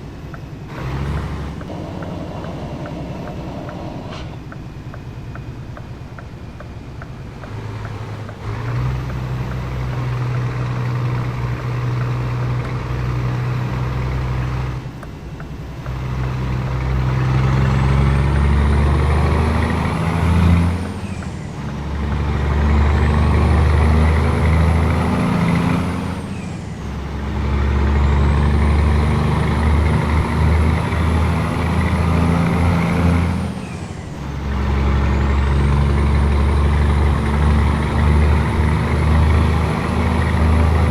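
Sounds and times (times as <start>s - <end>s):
diesel truck engine accelerating: 0.0s - 40.9s.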